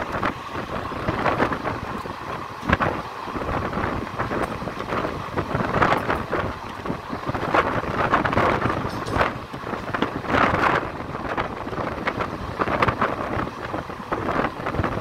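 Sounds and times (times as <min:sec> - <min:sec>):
moving train running noise: 0:00.0 - 0:15.0
wheels clattering over rails: 0:00.0 - 0:15.0
wind buffeting microphone: 0:00.0 - 0:15.0.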